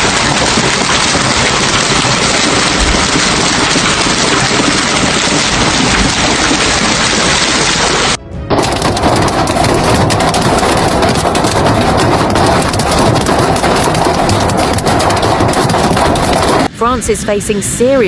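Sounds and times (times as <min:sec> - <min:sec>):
heavy rain pouring: 0:00.0 - 0:16.7.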